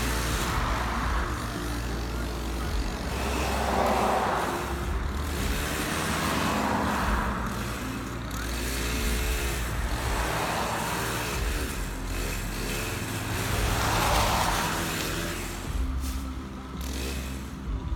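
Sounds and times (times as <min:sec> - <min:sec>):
low engine hum: 0:00.0 - 0:17.9
vehicles passing: 0:00.0 - 0:17.9.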